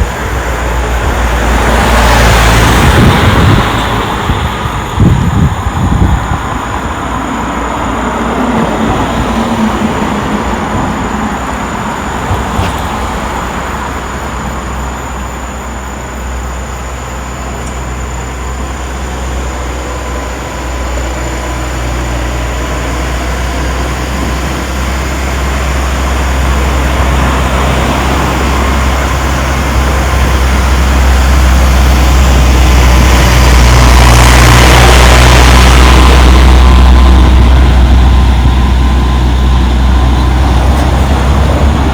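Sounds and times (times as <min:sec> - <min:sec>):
deep engine rumble: 0:00.0 - 0:41.9
vehicle passing close: 0:00.0 - 0:41.9.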